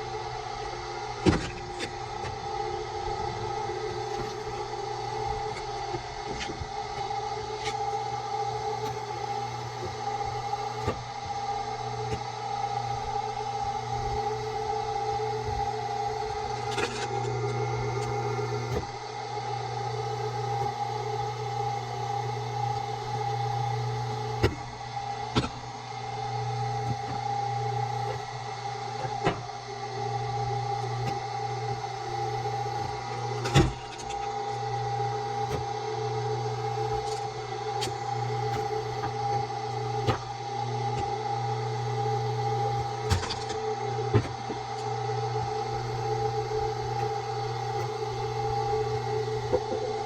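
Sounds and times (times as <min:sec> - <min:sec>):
motor humming: 0:00.0 - 0:50.0.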